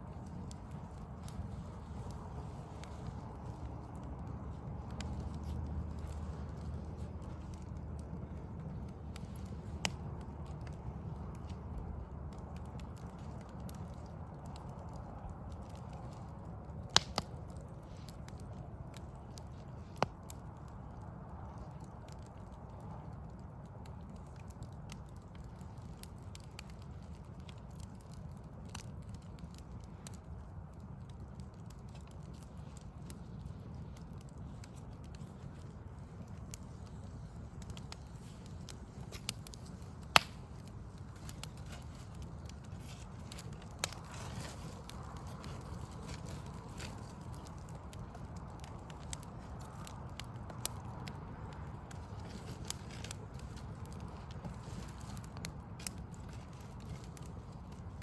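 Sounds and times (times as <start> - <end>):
low city rumble: 0.0 - 58.0
wood fire crackling: 0.0 - 58.0
sharp fire pops: 0.1 - 58.0.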